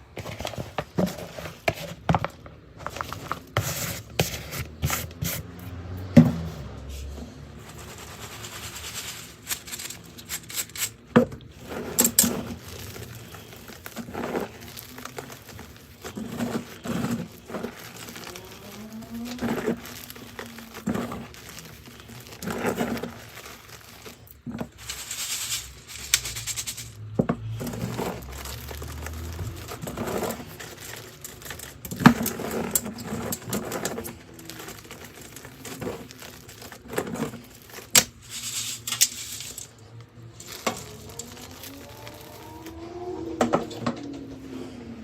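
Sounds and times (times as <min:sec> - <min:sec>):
chalk being crushed: 0:00.5 - 0:05.6, 0:07.5 - 0:42.5.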